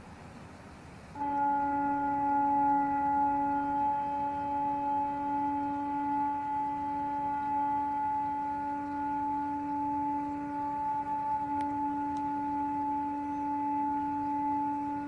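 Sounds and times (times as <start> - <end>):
steady horn-like drone: 0.7 - 15.0.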